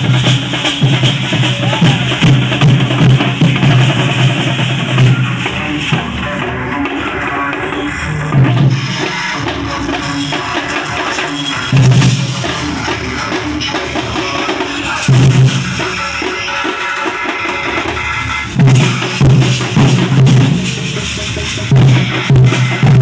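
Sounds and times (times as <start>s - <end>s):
loud drumming music: 0.0s - 23.0s.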